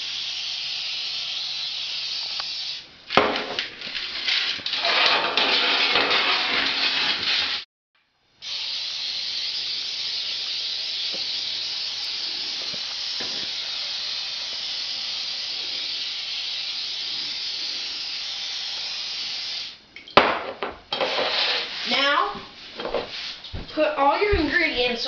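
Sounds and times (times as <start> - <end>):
steady hiss: 0.0 - 7.6, 8.3 - 20.0, 20.9 - 25.0.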